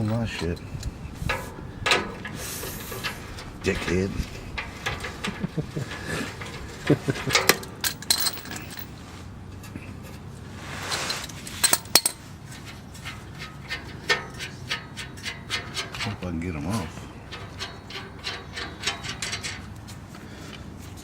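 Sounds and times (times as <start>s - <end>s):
metal tools clinking on metal: 0.0s - 9.0s, 11.1s - 19.8s.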